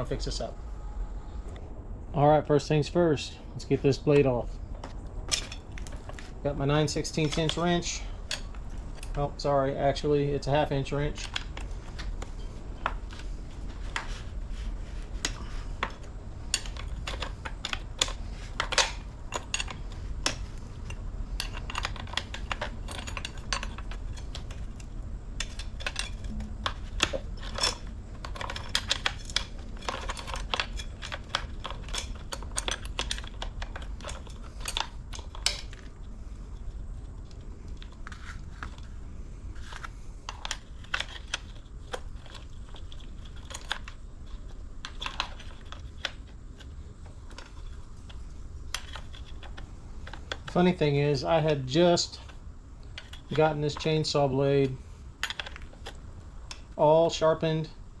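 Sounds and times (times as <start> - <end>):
metal parts being handled: 4.1 - 57.6.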